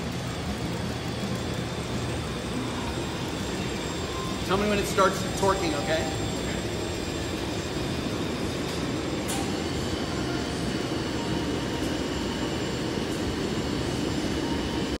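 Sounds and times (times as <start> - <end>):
furnace and burners roaring: 0.0 - 15.0.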